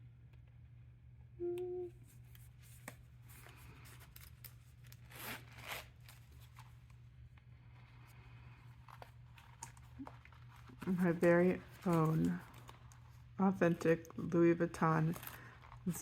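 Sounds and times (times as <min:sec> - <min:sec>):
steady low hum: 0:00.0 - 0:16.0
packaging rustling and scraping: 0:02.1 - 0:16.0.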